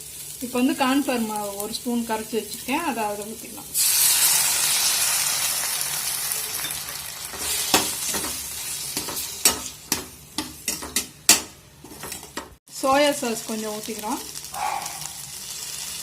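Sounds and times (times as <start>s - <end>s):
slurry sizzling in hot pan: 0.0s - 16.0s.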